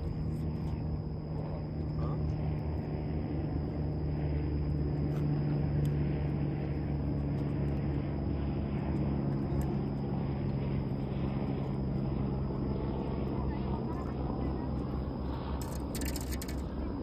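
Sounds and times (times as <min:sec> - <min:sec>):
idling engine hum: 0:00.0 - 0:17.0.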